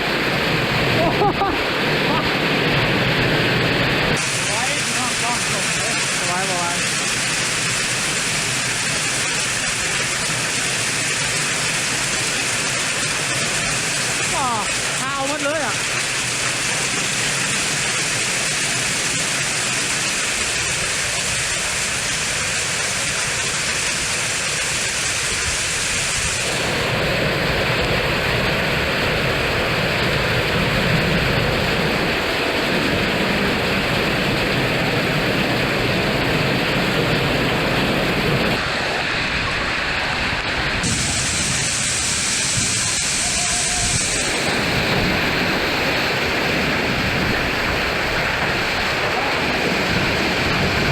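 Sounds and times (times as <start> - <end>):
rain: 0.0 - 50.9
strong storm wind: 0.0 - 50.9.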